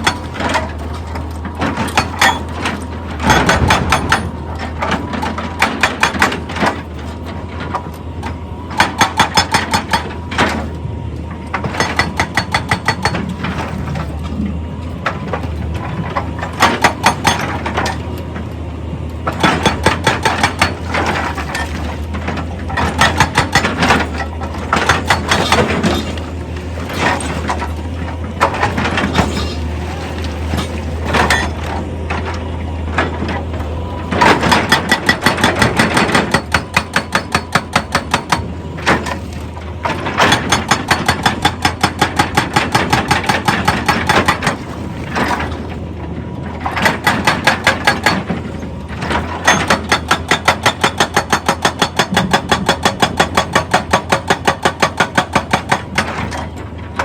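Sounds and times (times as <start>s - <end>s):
hydraulic rock breaker hammering: 0.0s - 10.8s, 11.4s - 14.4s, 15.0s - 18.0s, 19.2s - 45.8s, 46.4s - 57.0s
excavator engine hum: 0.0s - 57.0s.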